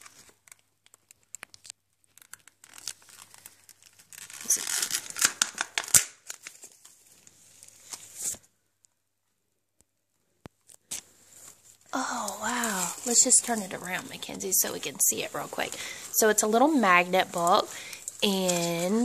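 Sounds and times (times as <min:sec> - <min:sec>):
plastic packaging crinkling: 0:00.0 - 0:08.5, 0:10.6 - 0:19.0.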